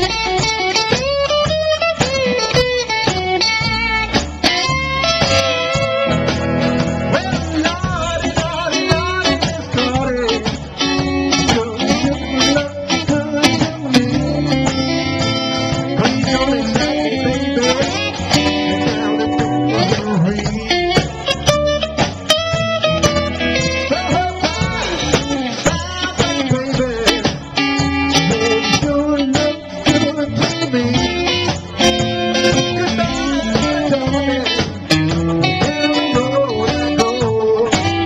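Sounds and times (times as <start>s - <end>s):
live rock and roll band: 0.0s - 38.0s.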